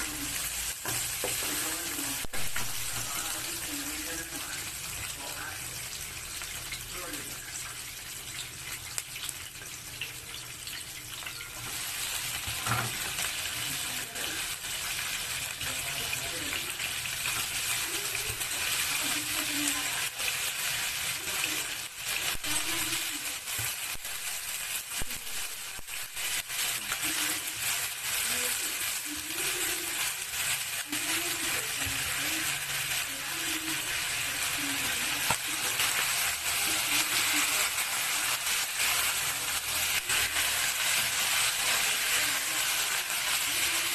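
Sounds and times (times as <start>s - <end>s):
oil sizzling in a frying pan: 0.0s - 43.9s.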